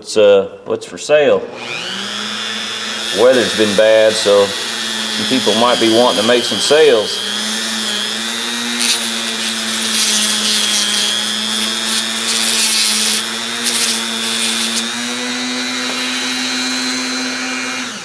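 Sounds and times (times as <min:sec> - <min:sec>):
rotary tool grinding metal: 0:01.6 - 0:18.0.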